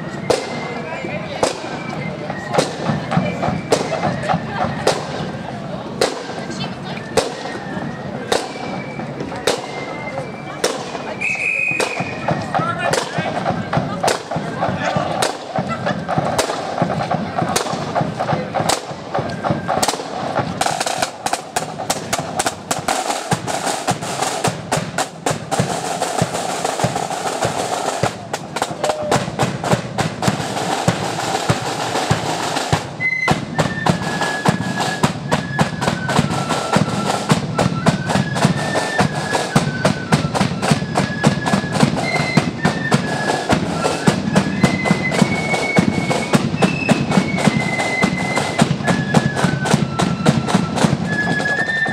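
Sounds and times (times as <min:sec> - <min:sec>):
flutes playing tune: 0:00.0 - 0:51.9
snare and bass drums: 0:00.0 - 0:51.9.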